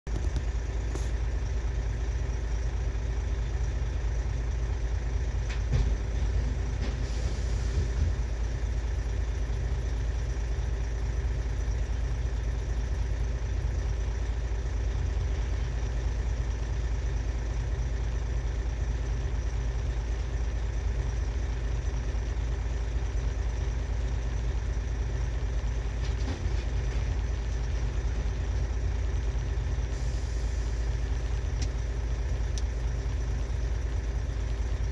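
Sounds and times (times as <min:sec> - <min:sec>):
diesel engine idling: 0:00.1 - 0:34.9.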